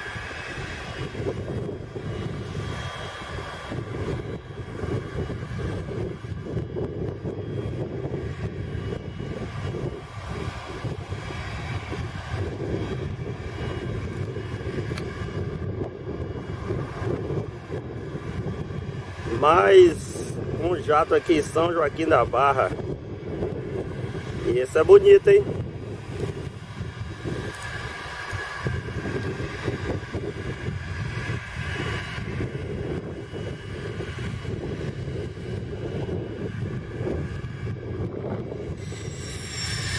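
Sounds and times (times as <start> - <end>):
jet engines running: 0.0 - 39.9
wind buffeting microphone: 0.0 - 39.9.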